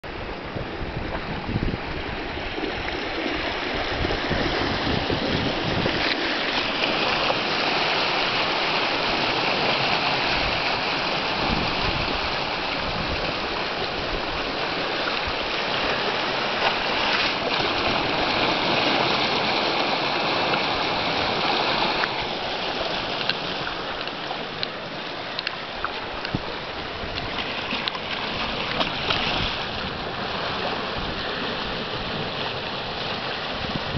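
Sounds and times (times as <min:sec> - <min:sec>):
sea water surging in a rock gully: 0:00.0 - 0:33.9.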